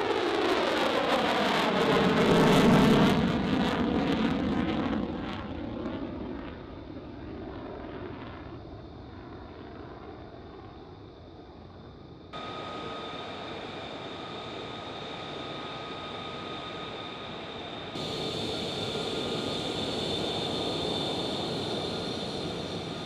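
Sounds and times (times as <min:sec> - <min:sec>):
jet engine roaring in afterburner: 0:00.0 - 0:09.2, 0:12.4 - 0:23.0
high-pitched jet engine whine: 0:00.0 - 0:23.0.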